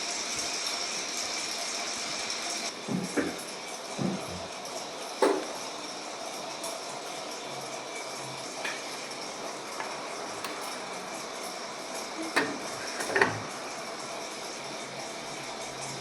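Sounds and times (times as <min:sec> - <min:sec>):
washing machine whirring: 0:00.0 - 0:16.0.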